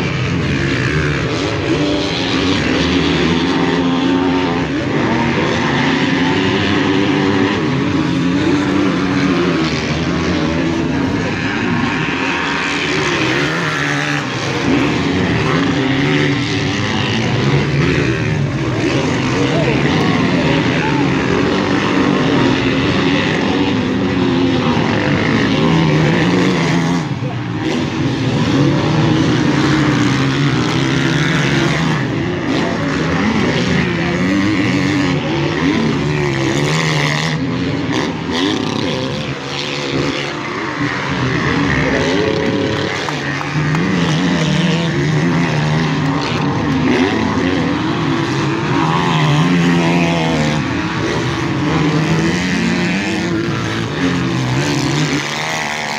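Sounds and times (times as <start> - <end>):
motocross engines revving: 0.0 - 55.9.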